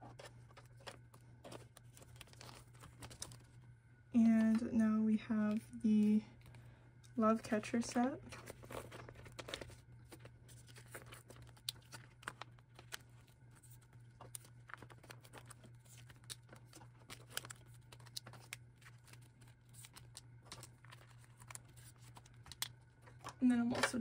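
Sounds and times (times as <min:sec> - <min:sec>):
plastic pages crinkling: 0:00.0 - 0:03.6, 0:05.5 - 0:24.0
small clicks and rustles: 0:00.0 - 0:03.6, 0:08.3 - 0:24.0
steady low hum: 0:00.0 - 0:24.0.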